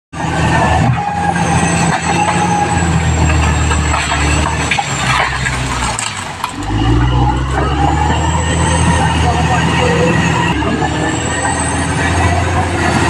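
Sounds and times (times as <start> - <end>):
bulldozer diesel engine: 0.1 - 13.0
crawler tracks squealing and clanking: 0.2 - 13.0.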